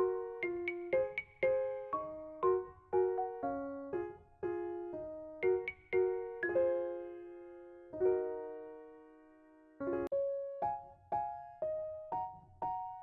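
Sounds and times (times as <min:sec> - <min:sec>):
keyboard piano music: 0:00.0 - 0:13.0.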